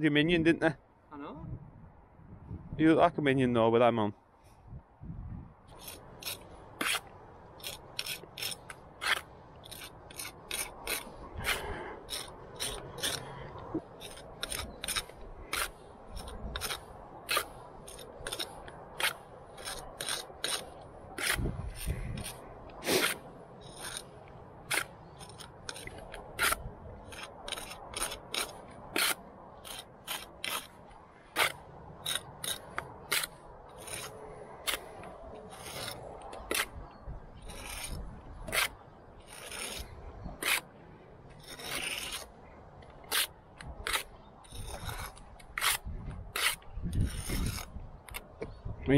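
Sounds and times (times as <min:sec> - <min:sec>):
pointing tool scraping mortar: 0:05.7 - 0:36.8, 0:37.4 - 0:40.7, 0:41.3 - 0:42.3, 0:43.0 - 0:48.2.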